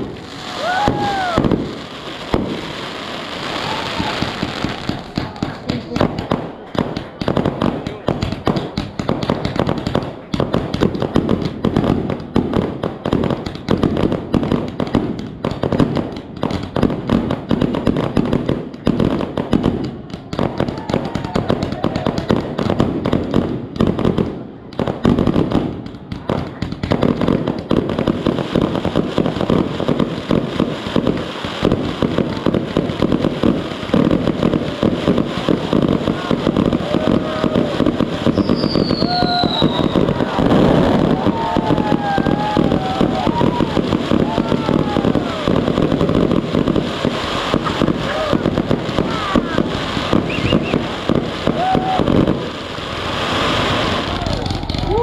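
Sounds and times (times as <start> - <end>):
fireworks crackling and popping: 0.0 - 55.0.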